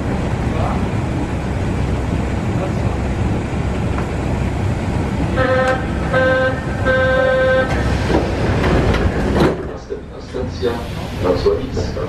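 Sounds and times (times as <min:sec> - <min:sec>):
train humming: 0:00.0 - 0:12.0.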